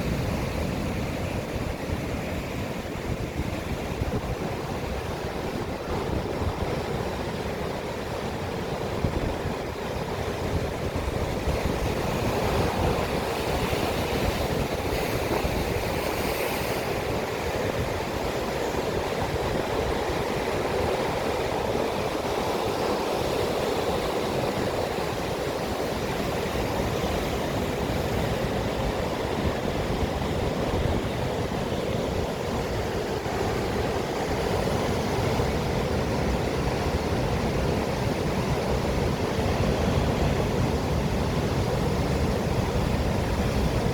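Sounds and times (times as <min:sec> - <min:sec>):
sea waves and surf: 0:00.0 - 0:43.9.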